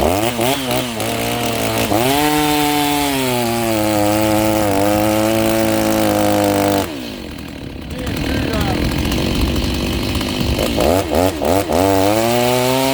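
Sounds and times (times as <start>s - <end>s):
chainsaw cutting wood: 0.0s - 12.9s.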